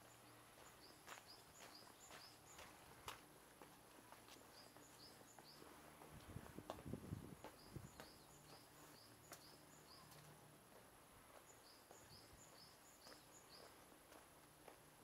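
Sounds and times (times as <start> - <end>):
footsteps on stone path: 0.0 - 15.0.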